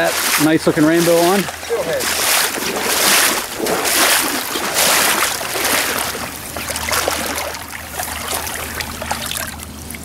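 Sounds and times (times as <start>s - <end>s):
stream water rushing and splashing: 0.0s - 10.0s.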